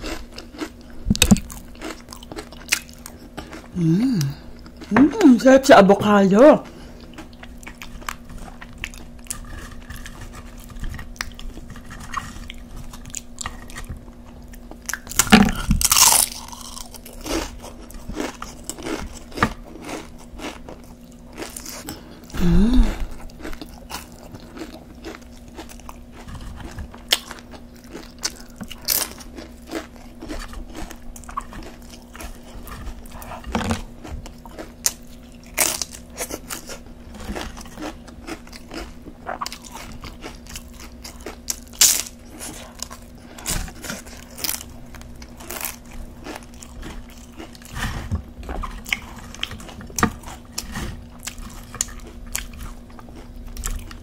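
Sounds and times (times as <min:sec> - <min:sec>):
crunching tortilla chips: 0:00.0 - 0:04.8, 0:07.0 - 0:48.0, 0:48.6 - 0:54.0.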